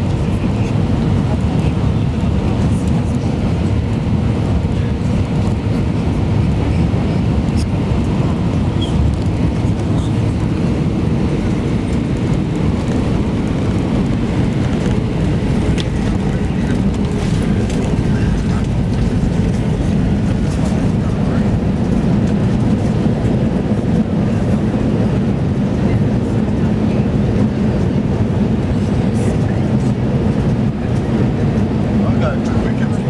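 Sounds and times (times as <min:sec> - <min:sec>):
engine and air rumble in cabin: 0:00.0 - 0:33.0.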